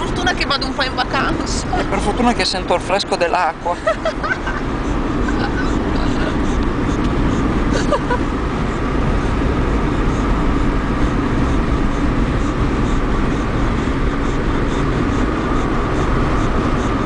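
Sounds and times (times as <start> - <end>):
car cabin road noise: 0.0 - 17.0.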